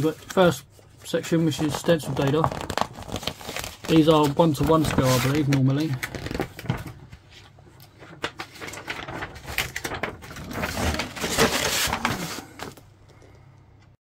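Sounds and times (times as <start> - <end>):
paper rustling and crinkling: 0.0 - 12.9.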